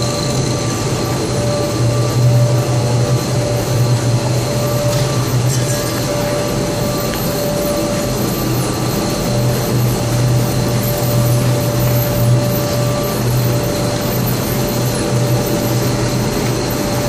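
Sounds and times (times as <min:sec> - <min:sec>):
machinery low hum: 0:00.0 - 0:17.0
thin steady whine: 0:00.0 - 0:17.0.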